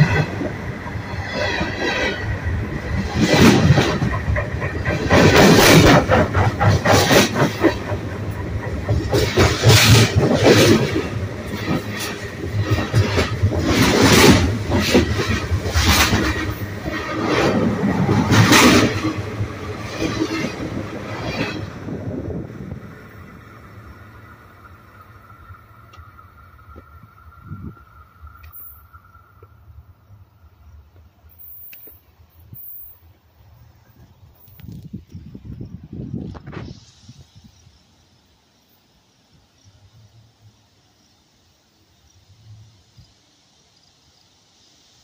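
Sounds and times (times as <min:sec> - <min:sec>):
train wheels rumbling on track: 0:00.0 - 0:37.1.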